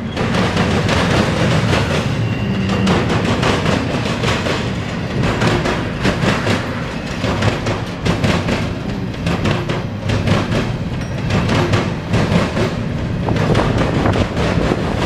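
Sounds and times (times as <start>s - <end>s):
train wheels rumbling: 0.0s - 15.0s
wheels clacking over rail joints: 0.0s - 15.0s.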